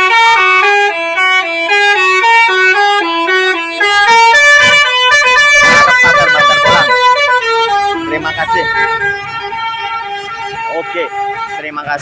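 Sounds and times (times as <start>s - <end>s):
multi-tone bus horn tune: 0.0s - 12.0s.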